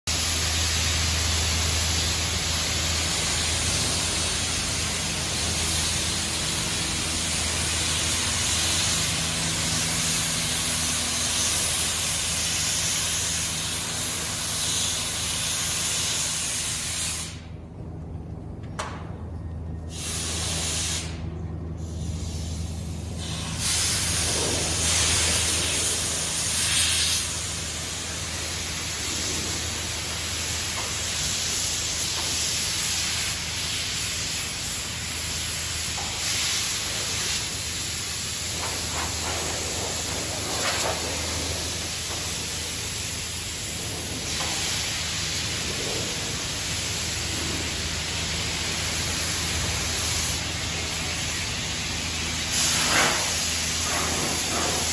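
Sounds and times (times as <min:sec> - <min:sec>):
hose spraying hiss: 0:00.1 - 0:17.5, 0:19.9 - 0:21.2, 0:21.8 - 0:54.9
low machinery hum: 0:00.1 - 0:54.9.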